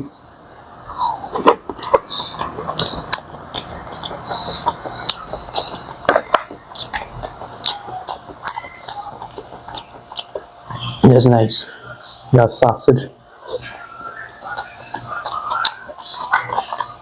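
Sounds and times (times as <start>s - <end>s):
chewing with wet smacks: 0.9s - 11.0s, 13.4s - 17.0s.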